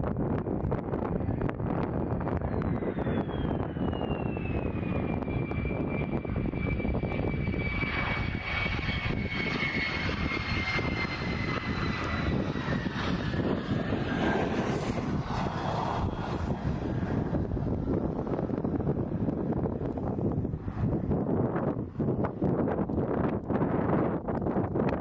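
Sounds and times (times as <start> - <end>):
jet engine passing: 0.1 - 23.2.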